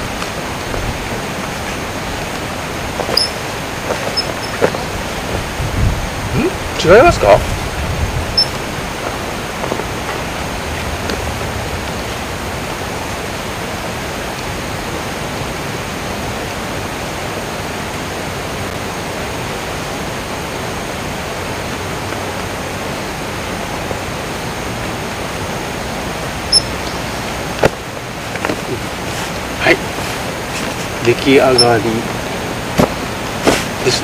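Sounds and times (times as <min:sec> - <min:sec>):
steady rushing noise: 0:00.0 - 0:34.0.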